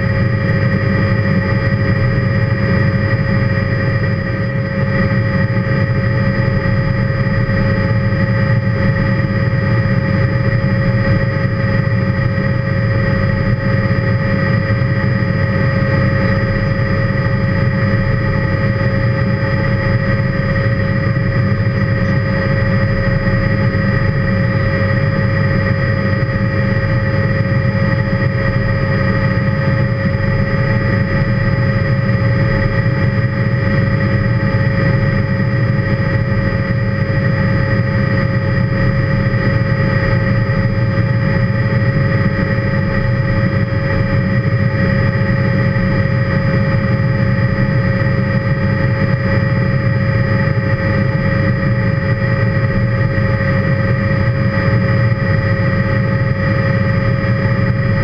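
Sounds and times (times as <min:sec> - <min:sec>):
helicopter engine and rotor rumble: 0:00.0 - 0:58.0
steady whining tones: 0:00.0 - 0:58.0.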